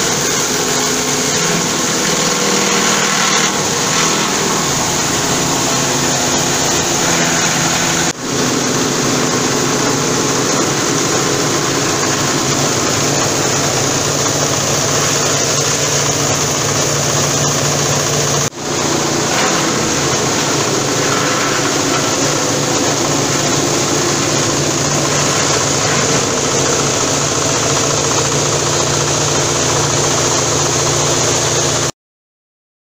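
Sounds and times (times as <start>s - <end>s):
machine hum: 0.0s - 31.9s
wood crusher grinding: 0.0s - 31.9s.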